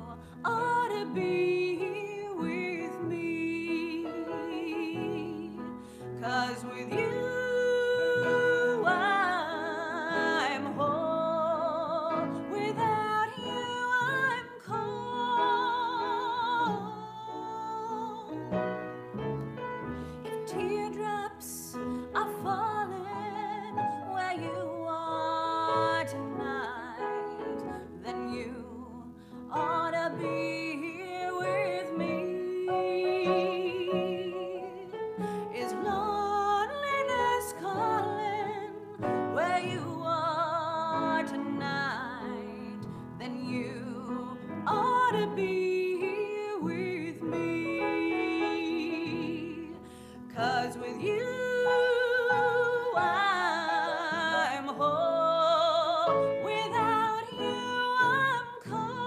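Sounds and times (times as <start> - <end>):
woman singing with vibrato: 0.0 - 18.9, 20.2 - 59.0
grand piano: 0.0 - 59.0.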